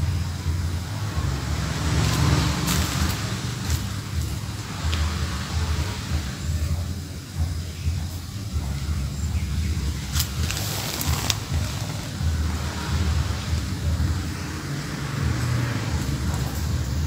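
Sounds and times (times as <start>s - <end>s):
crackling hiss: 0.0s - 17.0s
low outdoor rumble: 0.0s - 17.0s.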